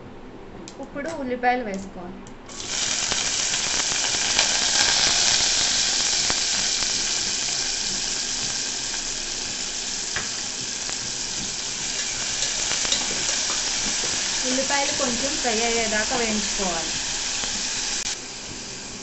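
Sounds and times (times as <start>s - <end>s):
onions sizzling in hot oil: 2.5s - 19.0s.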